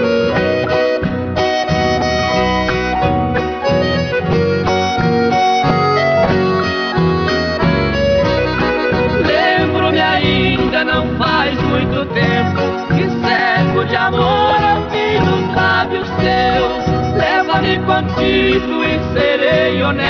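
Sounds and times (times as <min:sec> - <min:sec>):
instrumental love song music: 0:00.0 - 0:20.0.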